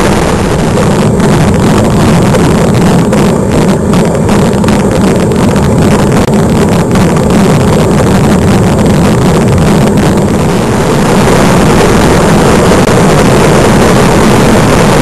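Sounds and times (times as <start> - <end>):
vehicle engine rumble: 0.0 - 15.0
wind buffeting microphone: 0.0 - 15.0.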